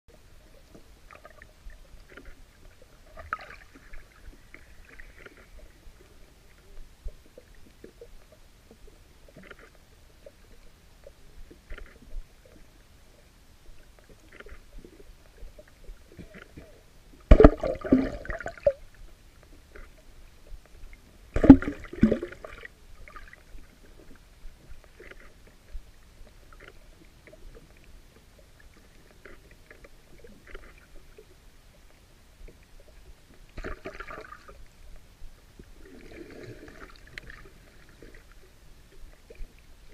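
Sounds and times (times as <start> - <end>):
faint underwater clicks and crackles: 0.1 - 39.9.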